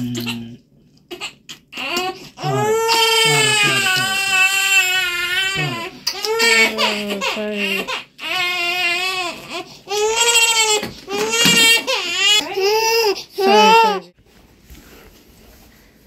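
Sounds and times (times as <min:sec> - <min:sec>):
baby crying: 0:01.1 - 0:14.2.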